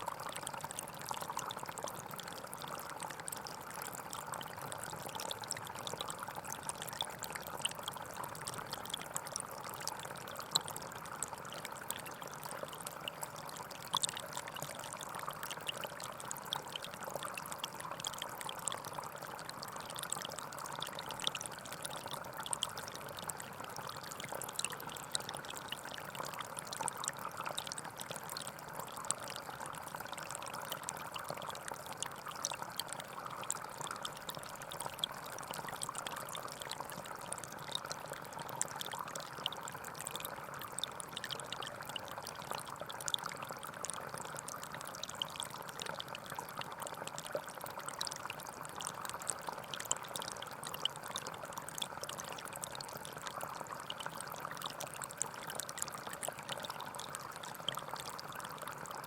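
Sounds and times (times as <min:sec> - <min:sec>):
stream water flowing and trickling: 0:00.0 - 0:59.0.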